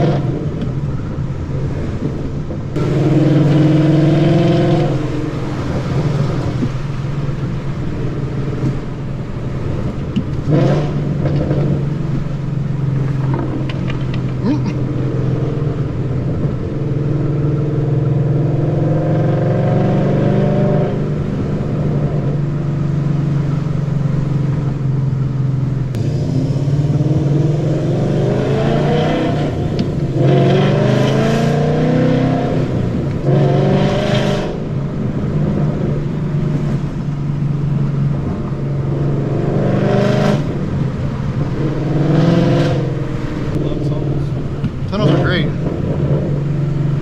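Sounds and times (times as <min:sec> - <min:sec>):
loud car exhaust note: 0:02.7 - 0:47.0.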